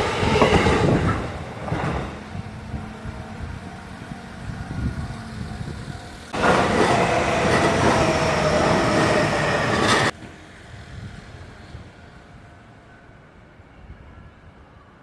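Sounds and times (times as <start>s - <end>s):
train wheels rushing on rails: 0.0s - 12.4s.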